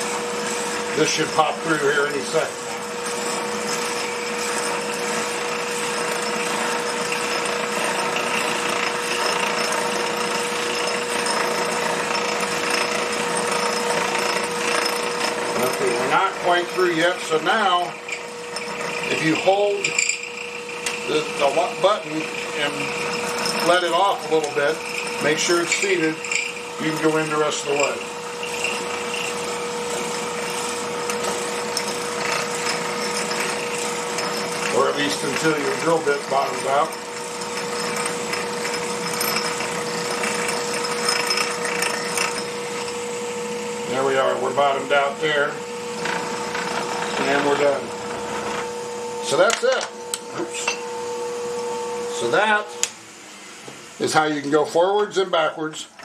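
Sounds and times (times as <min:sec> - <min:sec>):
drill bit boring into wood: 0:00.0 - 0:56.0
lathe whine: 0:00.0 - 0:56.0.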